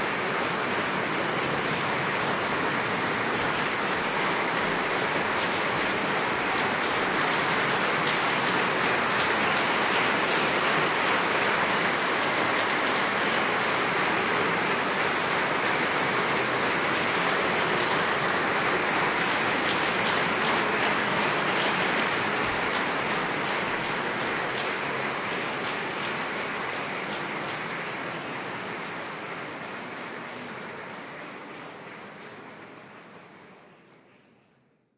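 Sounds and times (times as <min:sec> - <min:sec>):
audience applauding: 0:00.0 - 0:34.6.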